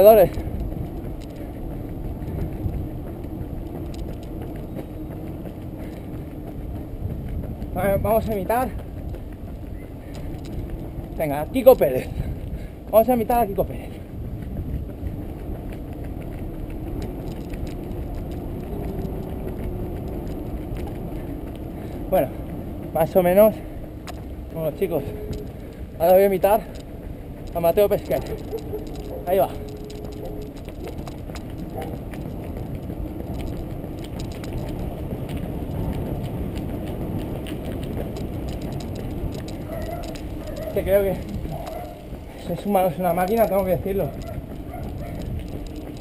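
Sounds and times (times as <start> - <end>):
bicycle rolling noise: 0.0 - 46.0
vehicle road noise rumble: 0.0 - 46.0
wind buffeting microphone: 0.0 - 46.0.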